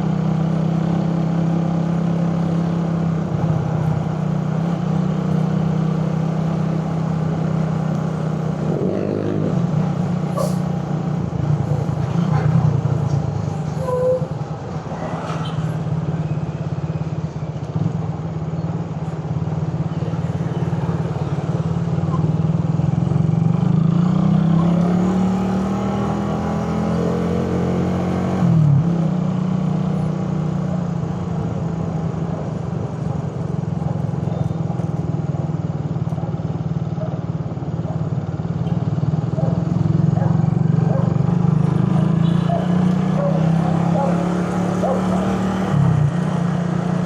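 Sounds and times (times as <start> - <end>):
motorcycle engine in traffic: 0.0 - 47.0.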